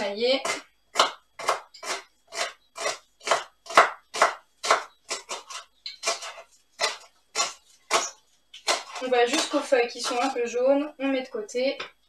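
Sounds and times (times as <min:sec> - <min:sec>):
knife chopping on wooden board: 0:00.4 - 0:10.3.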